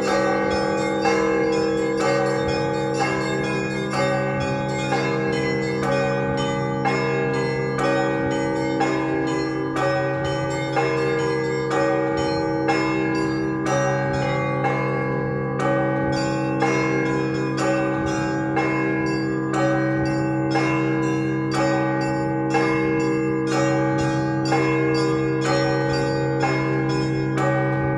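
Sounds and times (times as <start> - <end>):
deep church bells humming: 0.0 - 27.9
middle church bells struck: 0.0 - 27.9.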